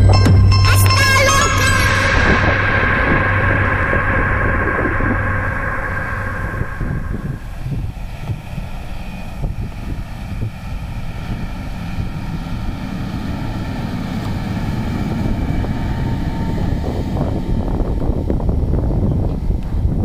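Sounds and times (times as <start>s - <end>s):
tractor diesel engine rumbling: 0.0s - 20.0s.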